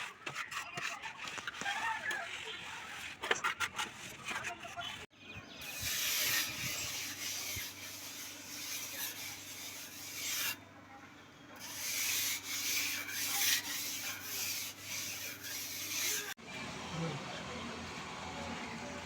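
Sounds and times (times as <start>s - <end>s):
tool scraping rough surface: 0.0s - 10.6s, 11.6s - 16.4s.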